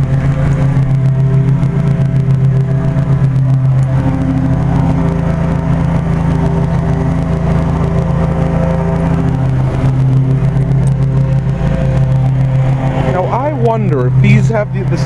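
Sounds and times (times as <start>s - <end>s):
compressor electrical hum: 0.0s - 15.0s
condenser fan whirring: 0.0s - 15.0s.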